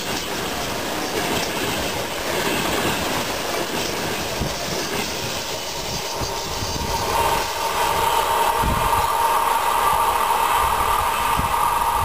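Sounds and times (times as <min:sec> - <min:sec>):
wheels clacking over rail joints: 0:00.0 - 0:10.2
train passing close: 0:00.0 - 0:12.0.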